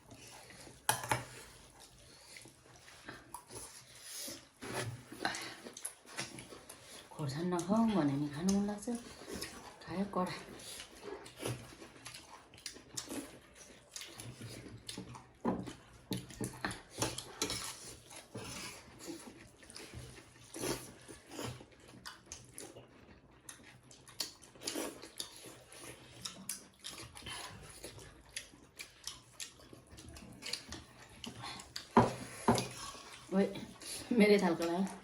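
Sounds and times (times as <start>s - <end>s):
chewing and lip-smacking: 0.0s - 9.8s, 10.4s - 35.0s.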